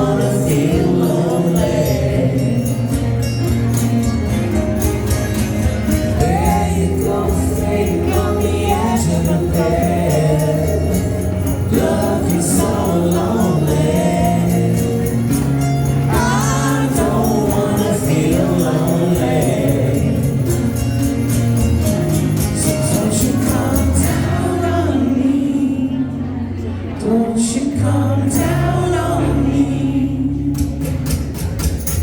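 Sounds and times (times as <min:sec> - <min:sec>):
several voices singing: 0:00.0 - 0:03.8, 0:05.8 - 0:31.1
strummed acoustic instruments: 0:00.0 - 0:32.0.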